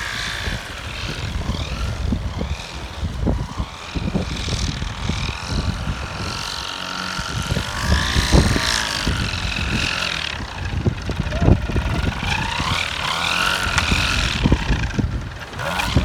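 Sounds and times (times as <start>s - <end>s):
paramotor engine and propeller: 0.0s - 16.0s
wind buffeting microphone: 0.0s - 16.0s.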